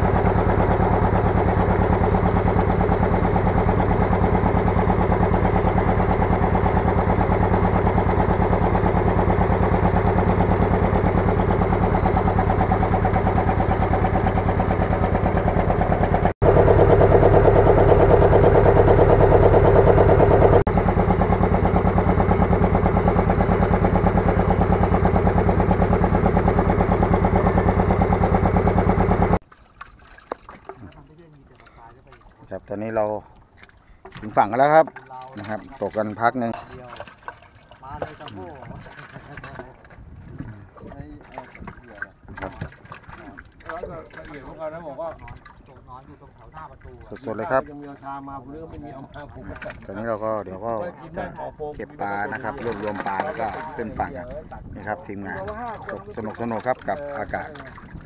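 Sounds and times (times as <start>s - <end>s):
boat engine running: 0.0s - 29.4s, 30.2s - 58.0s.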